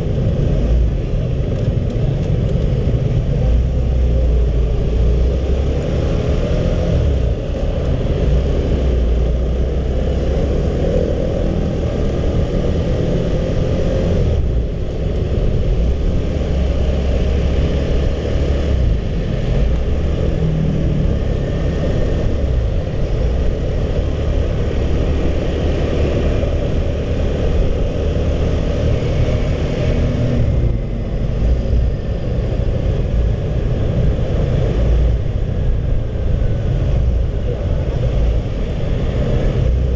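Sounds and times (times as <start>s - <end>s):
road noise: 0.0s - 39.9s
wind rumble on microphone: 0.0s - 39.9s.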